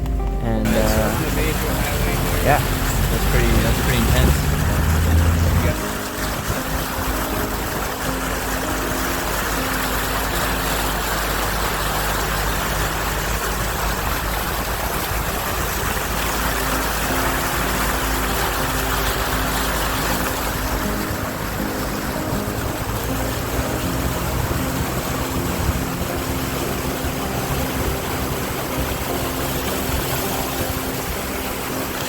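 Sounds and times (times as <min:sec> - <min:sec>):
car engine running: 0:00.0 - 0:32.0
road noise hiss: 0:00.0 - 0:32.0.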